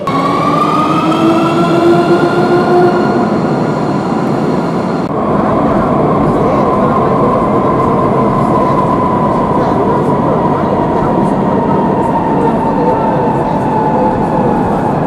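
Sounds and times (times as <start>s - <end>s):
rumbling rail noise: 0.0s - 15.0s
train traction motors whining: 0.0s - 15.0s.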